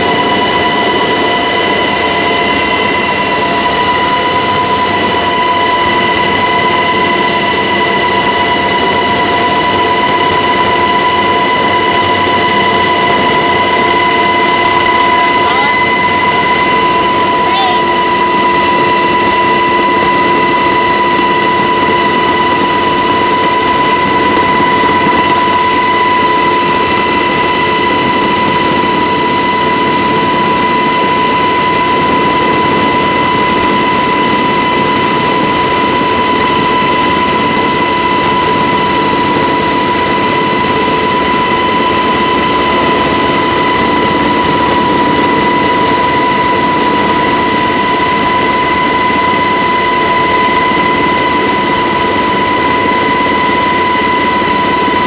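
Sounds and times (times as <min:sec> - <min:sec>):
helicopter rotor and turbine din: 0:00.0 - 0:55.0.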